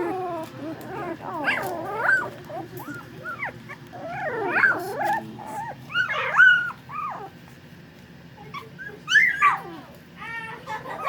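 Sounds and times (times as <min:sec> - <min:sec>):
puppies whimpering and squealing: 0:00.0 - 0:07.7, 0:08.3 - 0:11.0.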